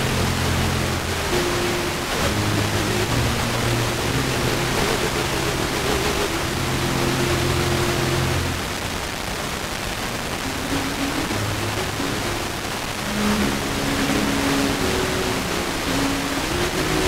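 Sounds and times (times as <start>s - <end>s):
faint classical music: 0.0s - 17.0s
radio static hiss: 0.0s - 17.0s.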